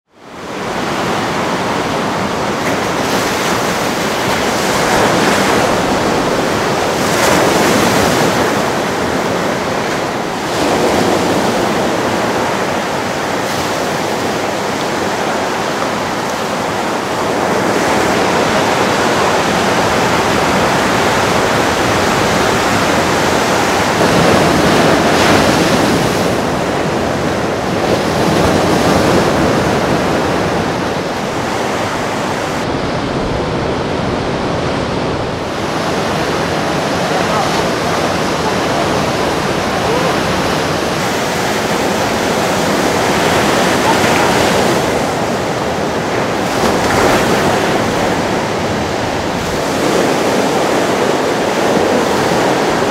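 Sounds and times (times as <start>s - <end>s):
ocean waves breaking: 0.1s - 52.9s.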